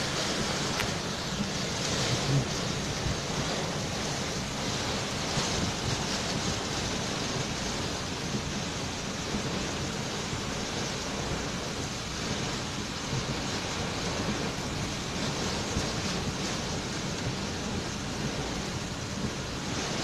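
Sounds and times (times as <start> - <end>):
gusting wind: 0.0 - 20.0
heavy rain pouring: 0.0 - 20.0.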